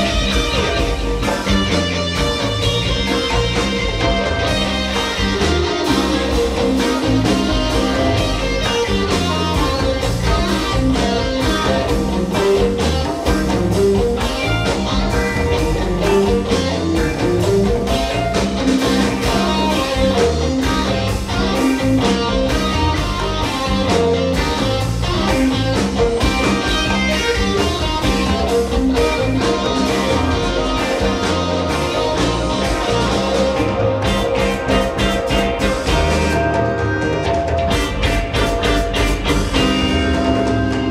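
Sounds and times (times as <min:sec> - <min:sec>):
electric guitar: 0:00.0 - 0:40.9
live band playing: 0:00.0 - 0:40.9.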